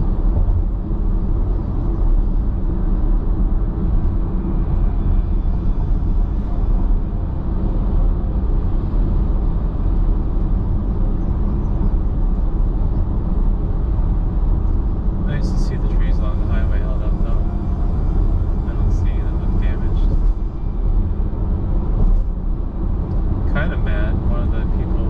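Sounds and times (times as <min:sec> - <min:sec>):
road and tyre rumble in car: 0:00.0 - 0:25.0.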